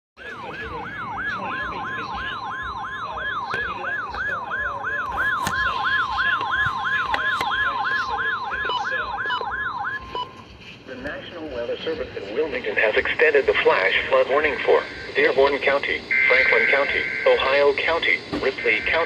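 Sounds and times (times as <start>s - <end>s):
falling alarm chirp: 0.2s - 10.5s, 13.8s - 19.0s
steady warning alarm tone: 0.2s - 19.0s.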